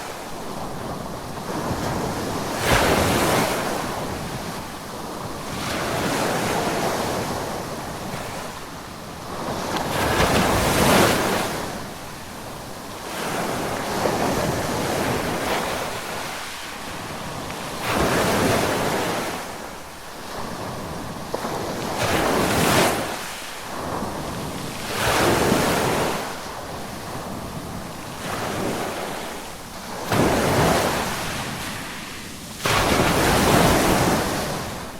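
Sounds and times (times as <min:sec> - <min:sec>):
ocean waves breaking on beach: 0:00.0 - 0:34.9
wind on microphone: 0:00.0 - 0:34.9.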